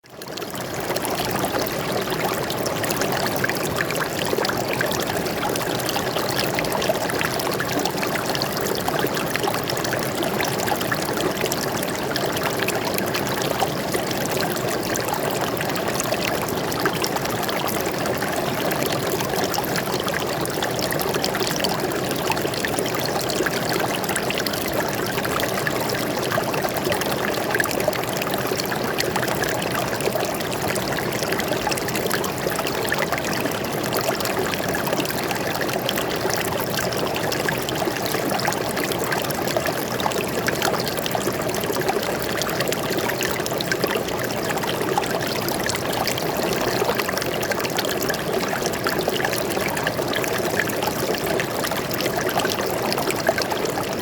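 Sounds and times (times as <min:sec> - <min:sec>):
stream flowing over rocks: 0:00.3 - 0:54.0.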